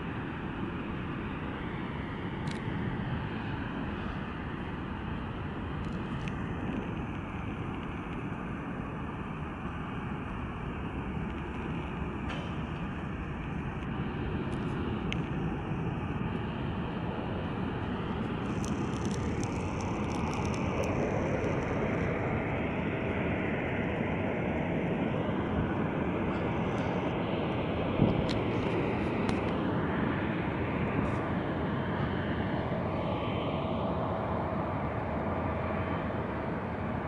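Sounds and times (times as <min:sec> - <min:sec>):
engine whine gliding in pitch: 0:00.0 - 0:37.0
jet engine rush: 0:00.0 - 0:37.0.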